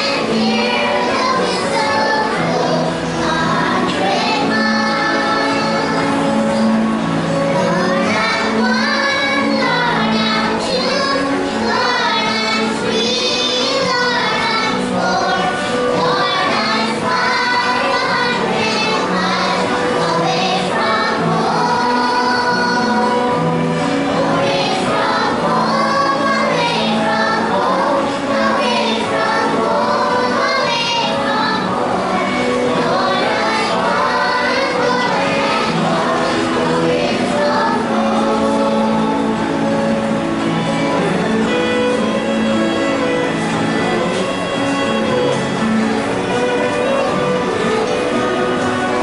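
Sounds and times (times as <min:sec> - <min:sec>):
children singing: 0:00.0 - 0:49.0
instrumental accompaniment: 0:00.0 - 0:49.0.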